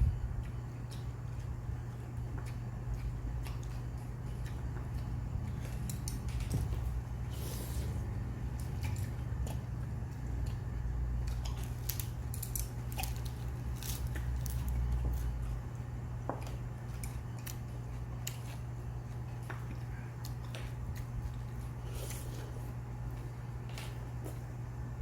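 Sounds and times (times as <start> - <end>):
steady low hum: 0.0 - 25.0
person chewing: 0.2 - 24.5.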